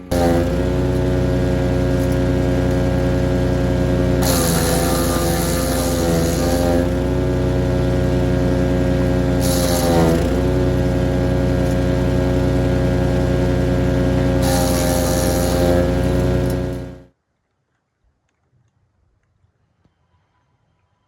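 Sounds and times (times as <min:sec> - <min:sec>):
engine running steadily: 0:00.0 - 0:17.1.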